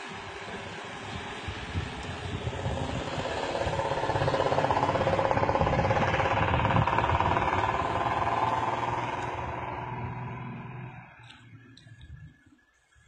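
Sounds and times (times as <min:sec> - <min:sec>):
trucks driving past: 0:00.0 - 0:12.4.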